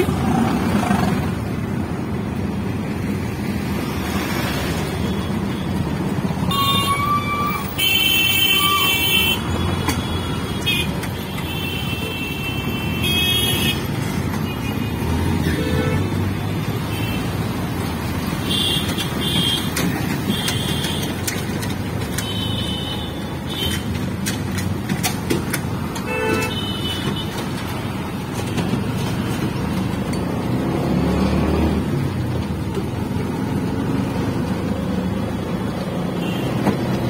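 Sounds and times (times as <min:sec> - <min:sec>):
engine and road rumble: 0:00.0 - 0:37.0.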